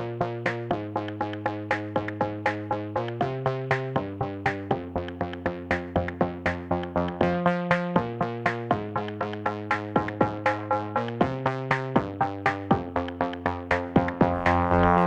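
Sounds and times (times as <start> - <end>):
held synth chords: 0.0 - 15.0
plucked synthesizer pattern: 0.0 - 15.0.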